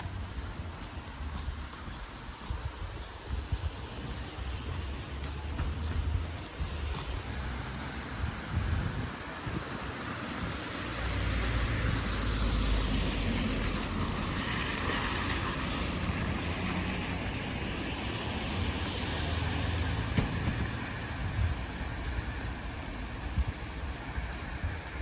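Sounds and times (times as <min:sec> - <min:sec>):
vehicle passing on wet road: 0:00.0 - 0:25.0
wind buffeting microphone: 0:00.0 - 0:25.0.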